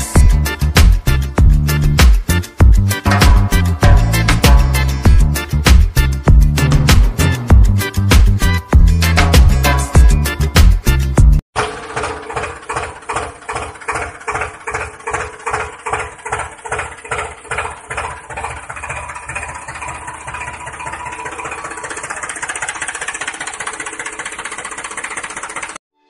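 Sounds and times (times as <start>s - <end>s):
tractor engine chugging: 0.0s - 10.5s, 11.6s - 25.8s.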